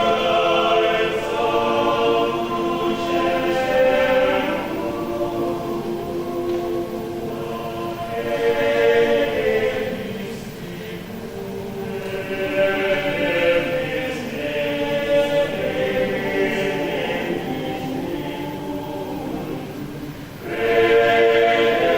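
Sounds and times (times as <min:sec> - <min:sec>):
choir singing sustained chords: 0:00.0 - 0:21.9.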